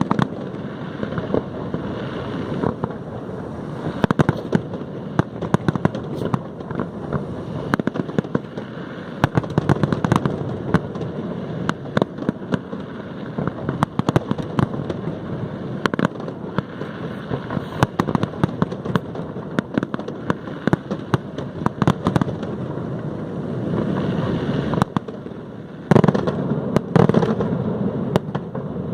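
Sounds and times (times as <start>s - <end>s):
firework cracks and bangs: 0.0s - 28.9s.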